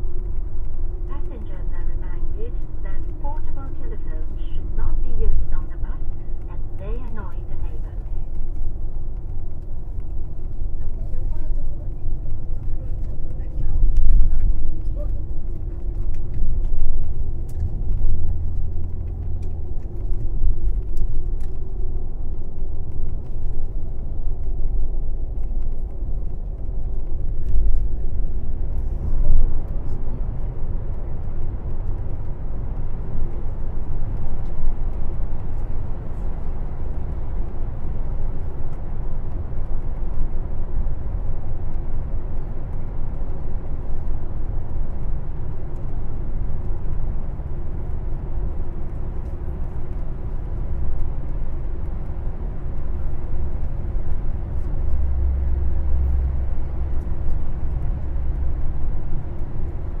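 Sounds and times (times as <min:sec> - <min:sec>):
coach engine and road rumble: 0:00.0 - 1:00.0.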